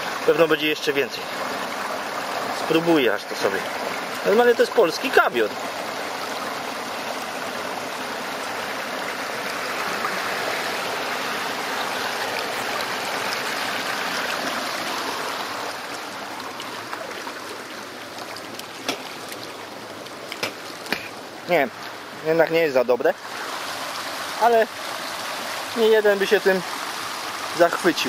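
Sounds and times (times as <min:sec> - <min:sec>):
shallow water splashing and rushing: 0:00.0 - 0:22.4, 0:23.1 - 0:28.0.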